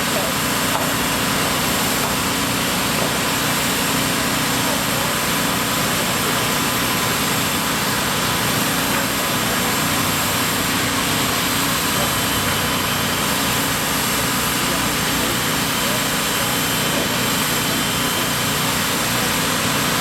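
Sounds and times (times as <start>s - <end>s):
machine running steadily: 0.0s - 20.0s.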